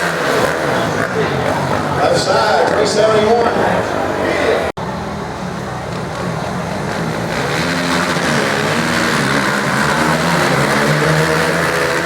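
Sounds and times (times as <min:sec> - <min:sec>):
racing engines running hard: 0:00.0 - 0:12.0.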